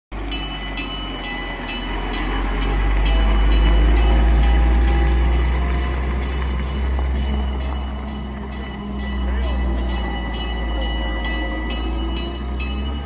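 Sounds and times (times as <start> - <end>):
fire truck engine driving past: 0.2 - 13.0
ringing metallic strikes: 0.3 - 13.0.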